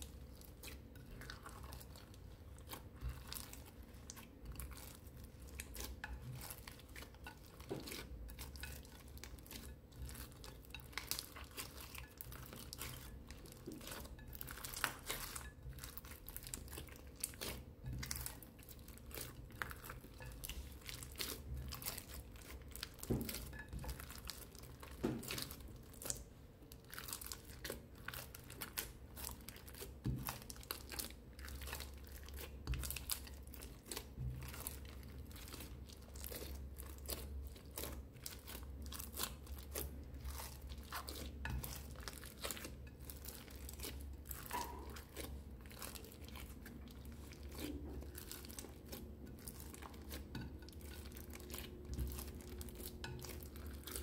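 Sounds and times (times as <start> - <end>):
hands squishing slime: 0.0 - 54.0.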